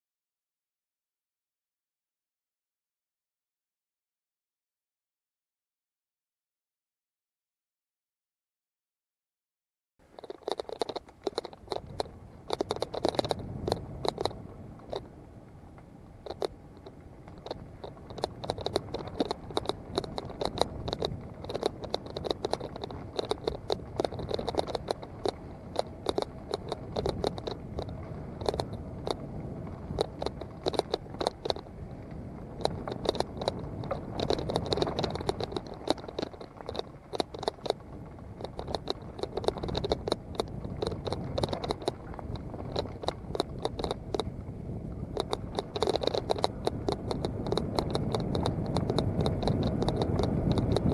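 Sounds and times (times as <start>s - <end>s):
bike rattling over bumps: 10.0s - 50.9s.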